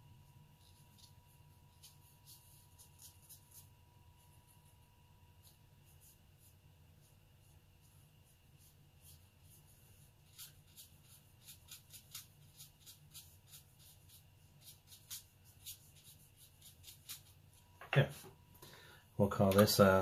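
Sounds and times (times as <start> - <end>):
brush strokes on paper: 0.0 - 17.7
low steady hum: 0.0 - 20.0.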